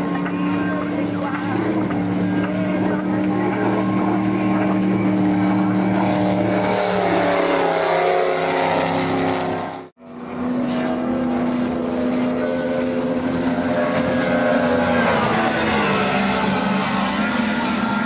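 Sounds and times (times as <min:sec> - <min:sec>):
racing outboard motors droning: 0:00.0 - 0:18.0.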